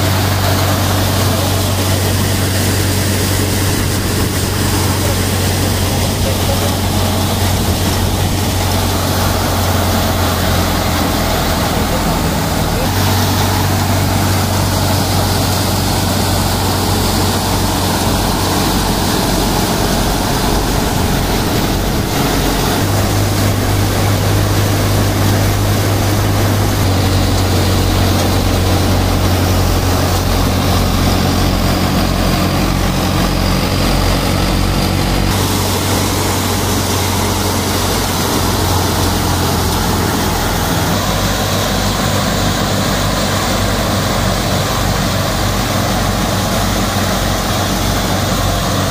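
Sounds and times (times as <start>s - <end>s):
thresher running: 0.0s - 48.9s
tractor diesel engine droning: 0.0s - 48.9s.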